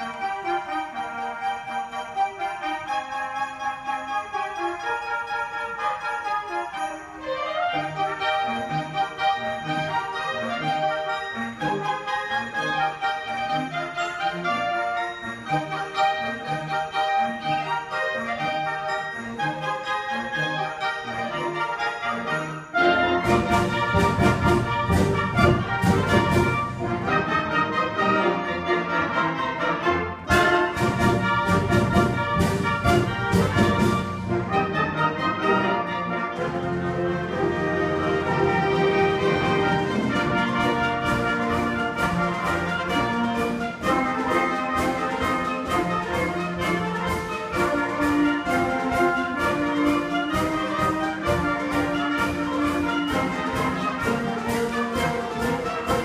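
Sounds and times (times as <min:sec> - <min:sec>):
wind band playing: 0:00.0 - 0:56.0.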